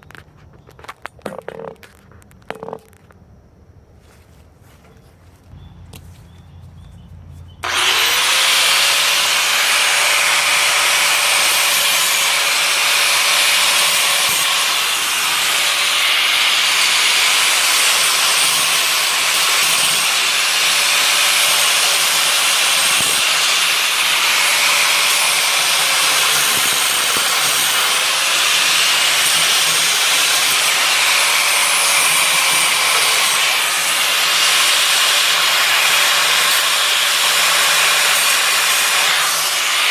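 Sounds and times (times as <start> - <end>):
angle grinder cutting metal: 7.6 - 39.9.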